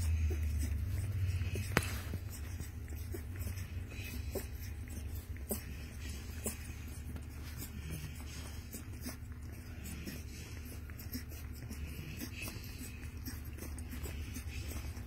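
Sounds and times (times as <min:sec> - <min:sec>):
puppies suckling: 0:00.0 - 0:15.0
steady low hum: 0:00.0 - 0:15.0.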